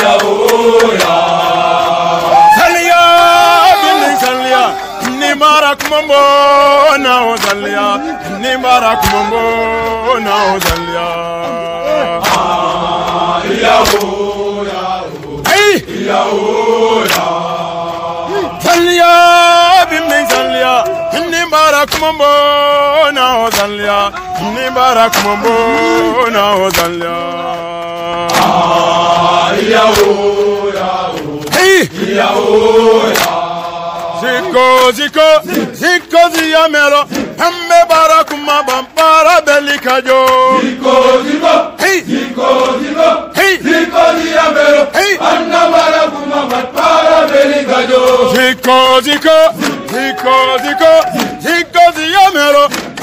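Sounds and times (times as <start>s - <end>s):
voices chanting a song: 0.0s - 53.0s.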